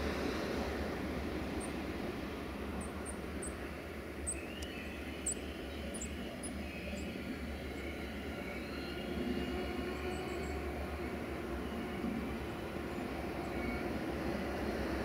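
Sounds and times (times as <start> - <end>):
distant diesel locomotive rumble: 0.0 - 15.0.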